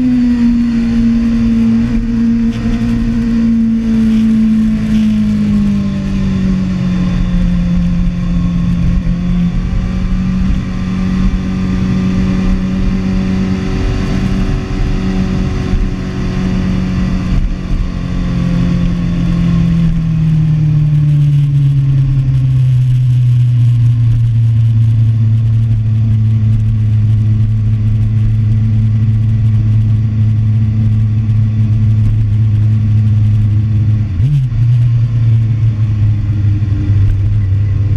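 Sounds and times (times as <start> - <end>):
motorcycle engine droning: 0.0 - 37.9.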